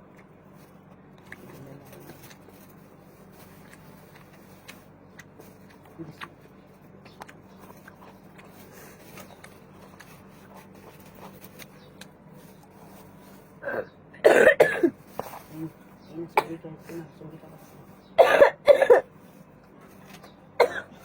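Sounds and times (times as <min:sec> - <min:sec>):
soft chewing: 0:00.0 - 0:14.2, 0:14.9 - 0:18.2, 0:19.0 - 0:21.0
faint steady hum: 0:00.0 - 0:21.0.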